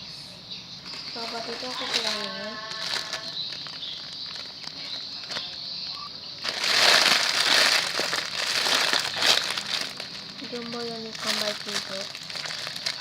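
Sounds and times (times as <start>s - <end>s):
plastic packaging crinkling: 0.8s - 13.0s.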